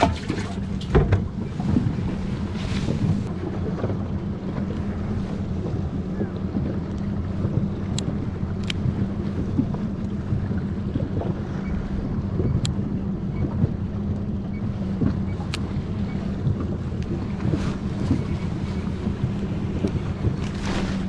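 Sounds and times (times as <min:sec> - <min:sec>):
boat engine hum: 0:00.0 - 0:21.0
water washing around hull: 0:00.0 - 0:21.0
wind buffeting microphone: 0:00.0 - 0:21.0.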